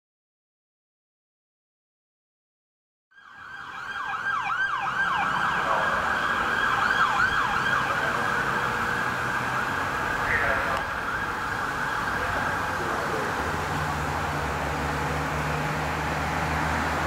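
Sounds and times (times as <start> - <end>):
siren sweeping: 3.1 - 17.0.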